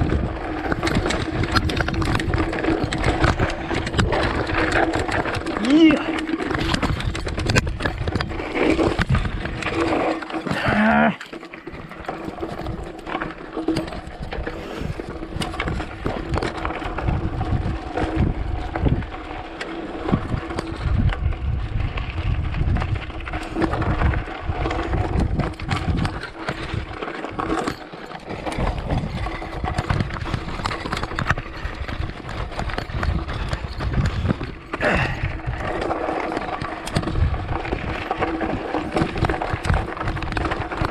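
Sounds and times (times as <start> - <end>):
bike rattling over rocks: 0.0 - 40.9.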